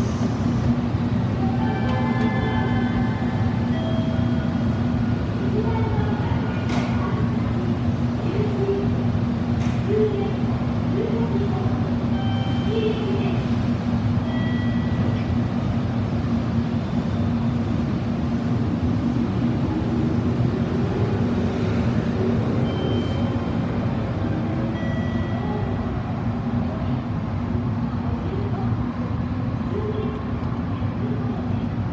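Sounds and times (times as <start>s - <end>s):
electric train rumbling past: 0.0s - 31.9s.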